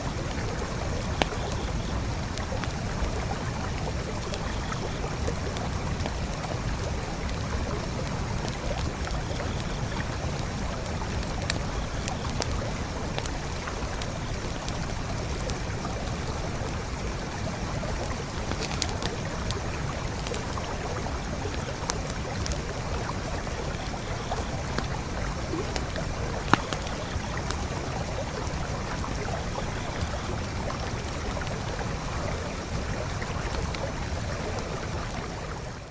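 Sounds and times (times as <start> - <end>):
campfire pops and crackles: 0.0 - 35.9
creek flowing: 0.0 - 35.9.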